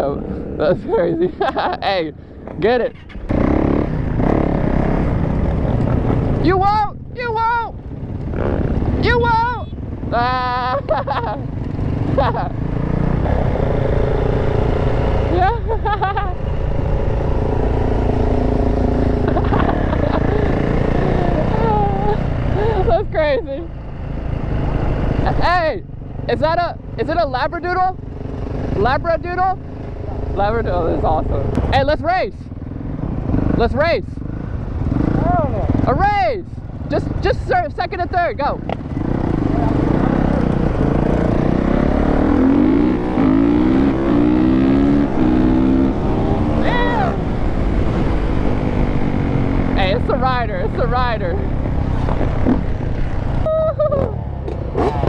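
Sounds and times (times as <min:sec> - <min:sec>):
dirt bike engine running: 0:02.7 - 0:55.0.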